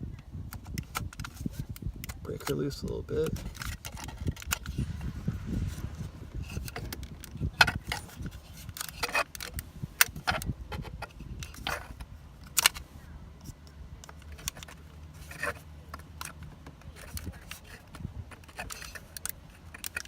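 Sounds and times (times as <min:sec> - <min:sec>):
low steady hum: 0:00.0 - 0:20.0
plastic tool clicking and scraping: 0:00.5 - 0:20.0.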